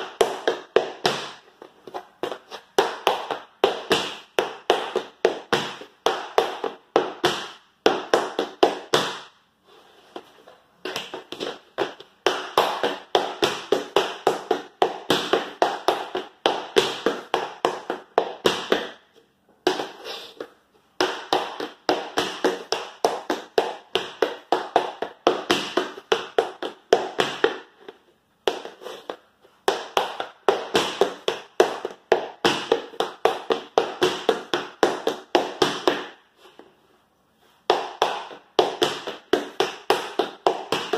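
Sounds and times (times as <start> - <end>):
tap shoes on wooden floor: 0.0 - 9.3, 10.1 - 19.0, 19.6 - 36.7, 37.7 - 40.9.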